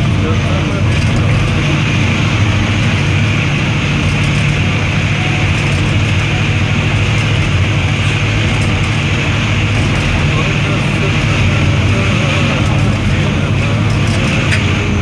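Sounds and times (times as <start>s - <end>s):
diesel locomotive droning: 0.0s - 15.0s.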